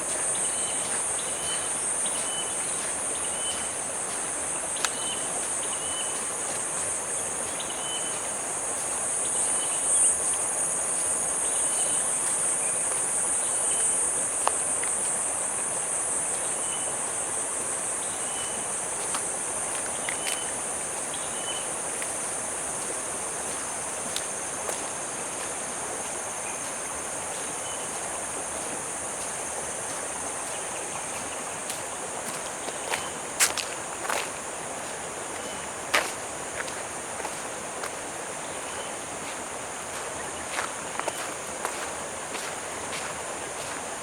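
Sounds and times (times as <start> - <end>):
background hiss: 0.0 - 44.0
insects trilling: 0.0 - 44.0.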